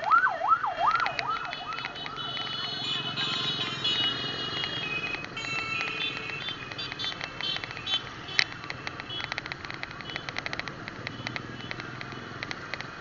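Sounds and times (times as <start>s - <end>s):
engine and road rumble: 0.0s - 13.0s
ticking rattles: 1.0s - 13.0s.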